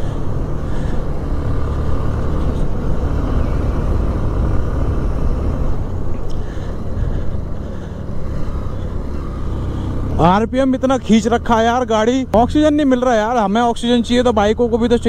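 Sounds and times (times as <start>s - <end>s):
motorcycle engine labouring: 0.0s - 15.0s.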